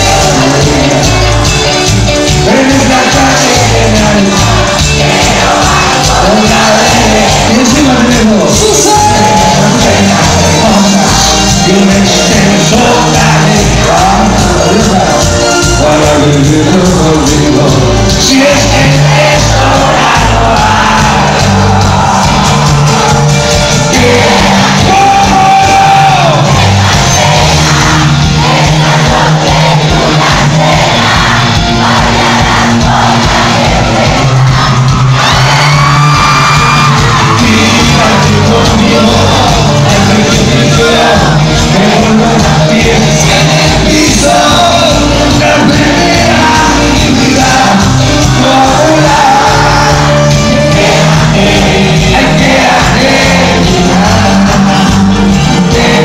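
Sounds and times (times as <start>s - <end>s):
crowd singing and shouting: 0.0s - 56.0s
live band playing steady beat: 0.0s - 56.0s.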